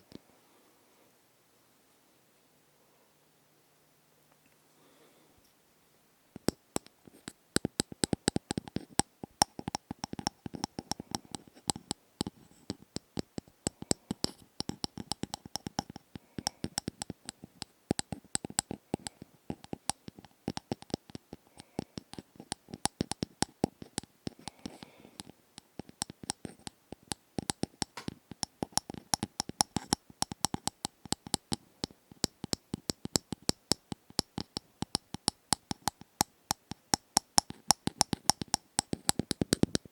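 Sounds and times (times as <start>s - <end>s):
crisp tapping and scratching: 6.4s - 39.9s.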